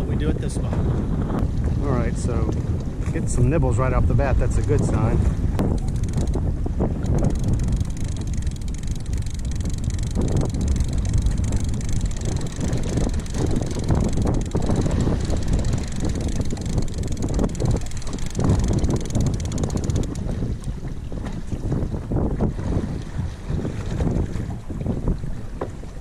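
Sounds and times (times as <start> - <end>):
choppy water against boat hull: 0.0 - 26.0
wind buffeting microphone: 0.0 - 26.0.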